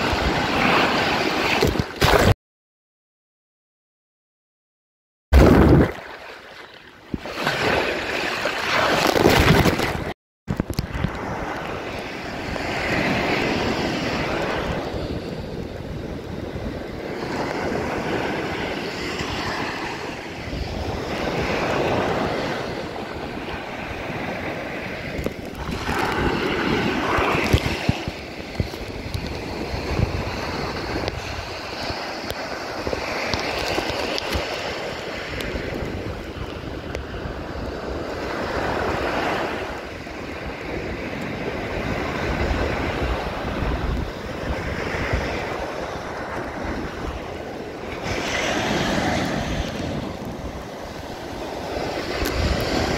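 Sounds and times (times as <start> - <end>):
ocean surf washing up beach: 0.0 - 2.3, 5.4 - 52.9
wind buffeting microphone: 9.0 - 52.9.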